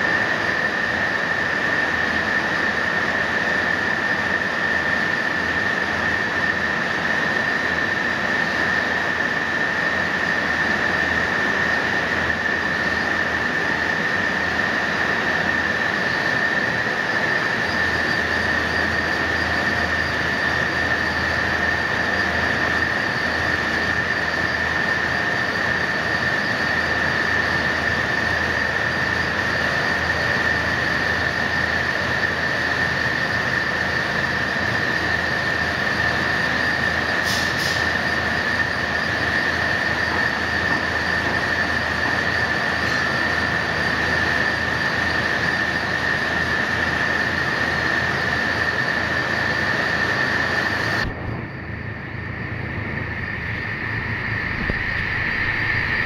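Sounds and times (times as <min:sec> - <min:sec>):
industrial machine rollers running: 0:00.0 - 0:51.2
continuous high machine whine: 0:00.0 - 0:56.0.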